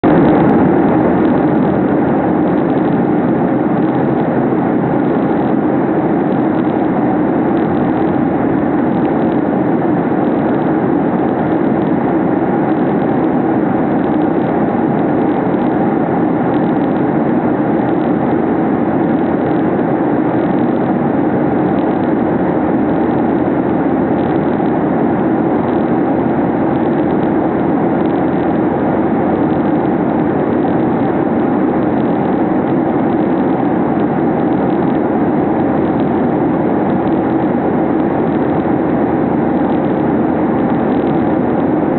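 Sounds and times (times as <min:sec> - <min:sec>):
airliner cabin engine rush: 0:00.0 - 0:41.9.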